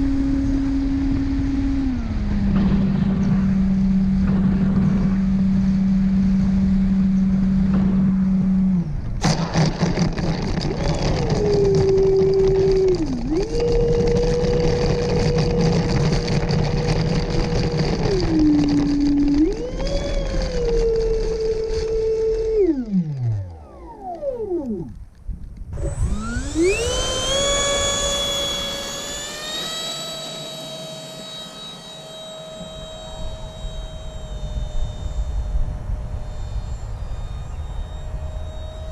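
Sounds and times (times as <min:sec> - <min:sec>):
electric ducted fan whining: 0:00.0 - 0:38.9
wind rumble on microphone: 0:00.0 - 0:38.9.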